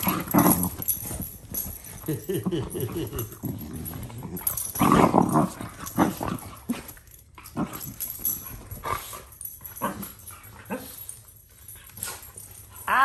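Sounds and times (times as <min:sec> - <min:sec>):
dogs growling while playing: 0:00.0 - 0:13.0.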